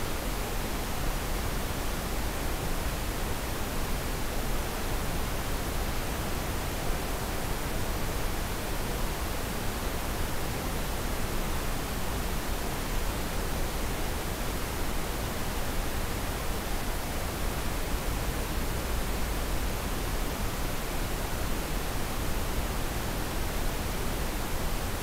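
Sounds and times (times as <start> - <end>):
steady microphone hiss: 0.0 - 25.0.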